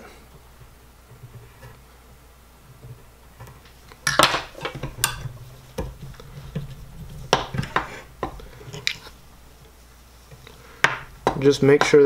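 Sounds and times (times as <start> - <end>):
rustling of materials: 0.0 - 12.0.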